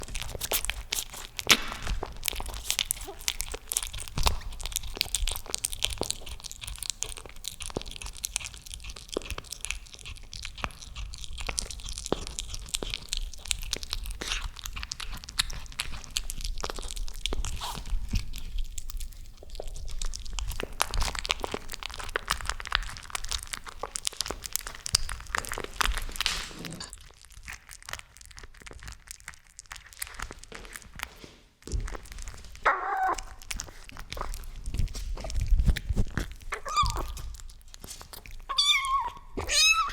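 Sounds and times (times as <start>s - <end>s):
cat crunching food: 0.0s - 39.9s.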